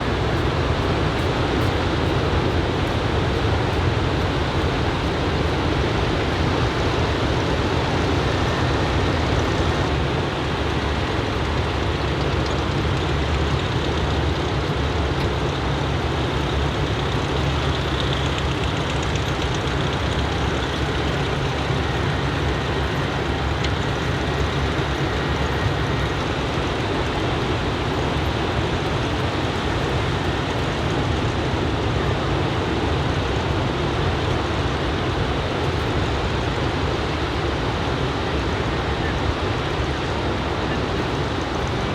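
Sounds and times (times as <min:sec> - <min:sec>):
roar of ocean surf: 0:00.0 - 0:41.9.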